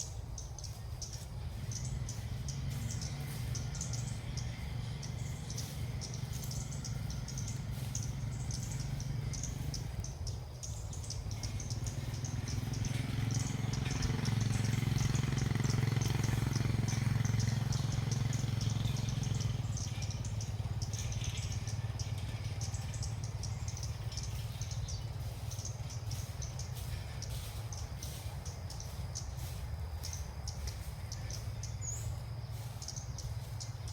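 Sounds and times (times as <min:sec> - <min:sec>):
small birds chirping: 0:00.0 - 0:33.9
vehicle engine hum passing: 0:00.0 - 0:33.9.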